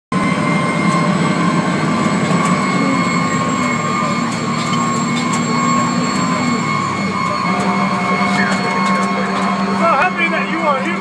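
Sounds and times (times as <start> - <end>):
engine and road rumble: 0.1 - 11.0
high-pitched whine: 0.2 - 10.4.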